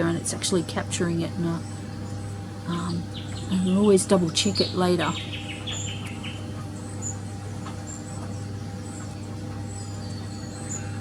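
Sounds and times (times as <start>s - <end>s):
small birds chirping: 0.8s - 11.0s.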